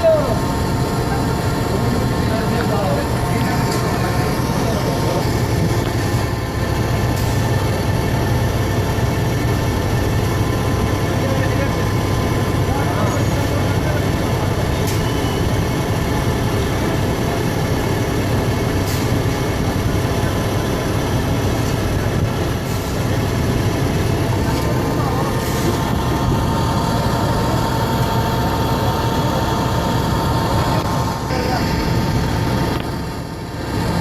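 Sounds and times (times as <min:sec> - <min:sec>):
heavy diesel engine running: 0:00.0 - 0:34.0
steady whine: 0:00.0 - 0:34.0.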